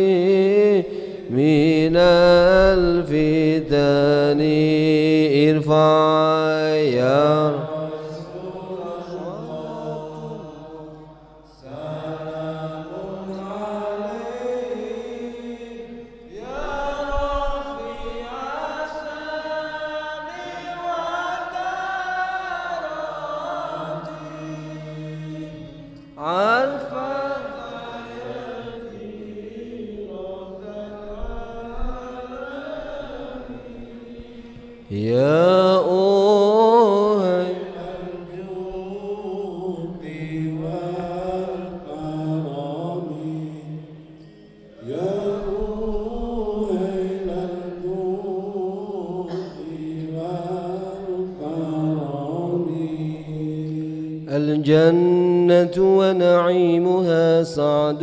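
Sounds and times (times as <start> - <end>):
voices chanting over microphone: 0.0 - 58.0.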